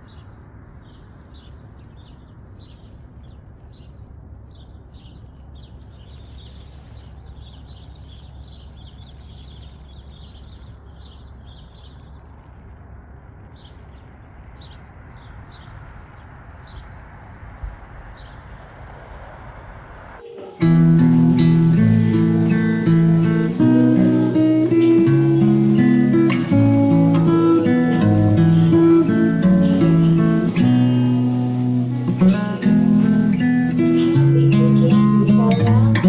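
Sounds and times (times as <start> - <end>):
low background rumble: 0.0 - 36.0
small birds chirping: 0.0 - 36.0.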